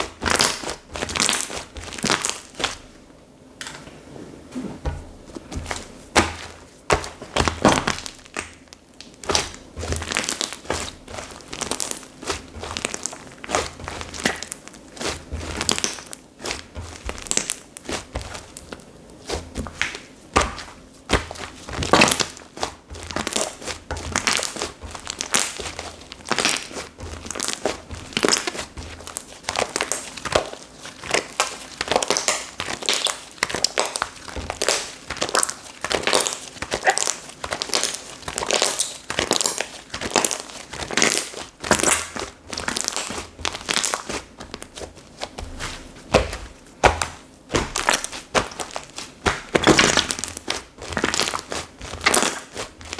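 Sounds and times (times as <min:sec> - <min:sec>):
slime squishing: 0:00.0 - 0:02.9, 0:04.6 - 0:52.9.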